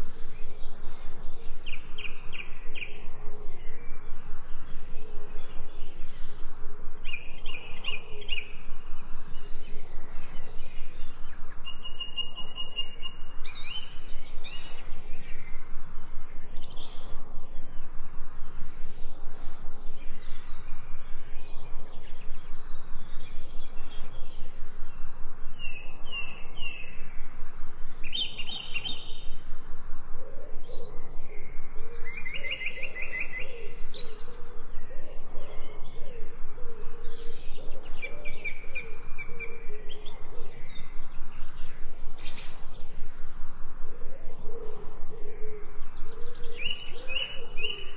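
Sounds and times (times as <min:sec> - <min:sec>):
birds chirping and trilling: 0:00.0 - 0:47.9
lower bird call: 0:00.0 - 0:47.9.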